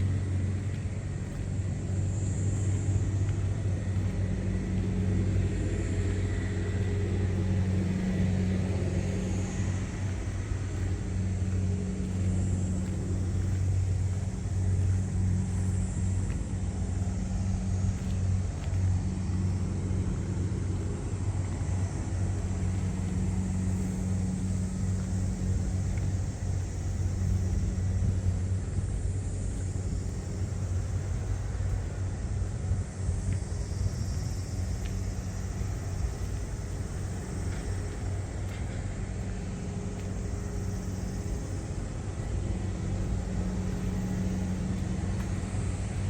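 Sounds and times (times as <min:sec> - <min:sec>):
combine harvester engine drone: 0:00.0 - 0:46.0.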